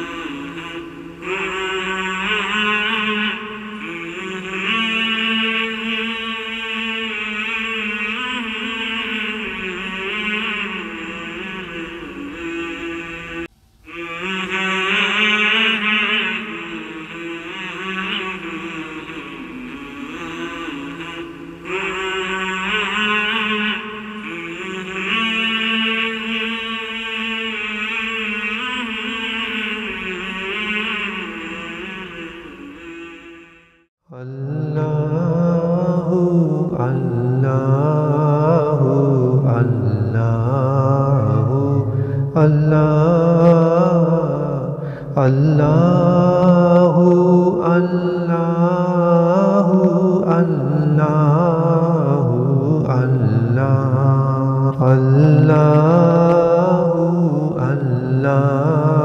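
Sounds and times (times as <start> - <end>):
melodic vocal chant: 0.0 - 59.0.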